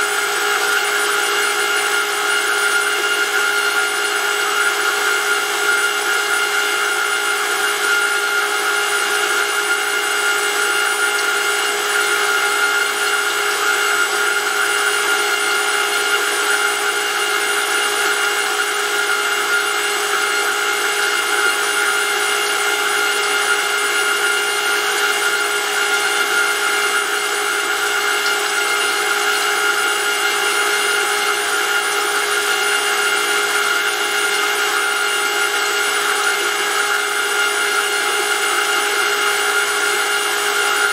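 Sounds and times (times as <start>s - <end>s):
electric motor pump whining: 0.0s - 40.9s.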